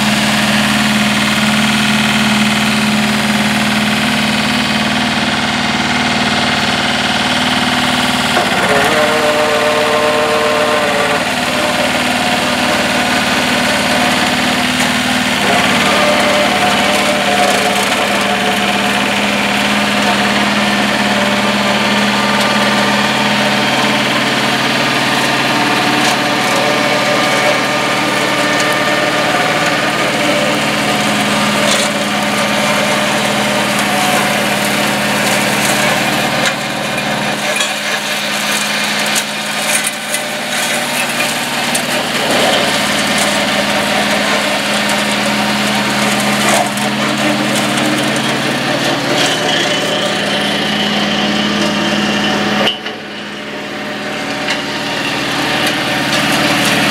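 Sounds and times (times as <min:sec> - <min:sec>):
diesel tractor engine running: 0:00.0 - 0:56.9
flail mower shredding brush: 0:00.0 - 0:56.9.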